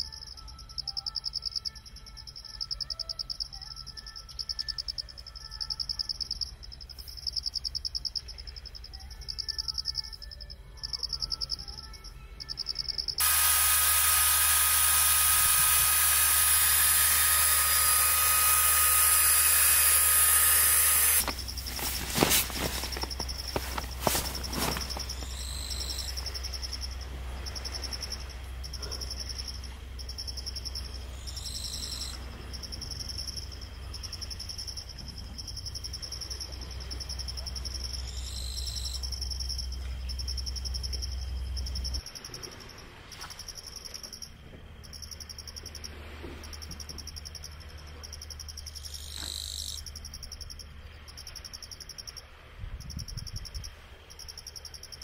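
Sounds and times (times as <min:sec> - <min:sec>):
low hum: 0:00.0 - 0:49.1
crickets chirping: 0:00.0 - 0:55.0
lower insect call: 0:00.0 - 0:55.0.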